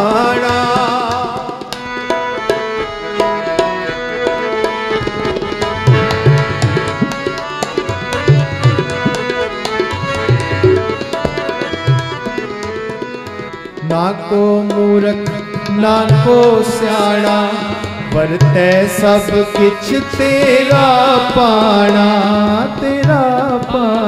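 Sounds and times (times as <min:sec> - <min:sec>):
sustained harmonium notes: 0:00.0 - 0:24.0
tabla playing a brisk rhythm: 0:00.0 - 0:24.0.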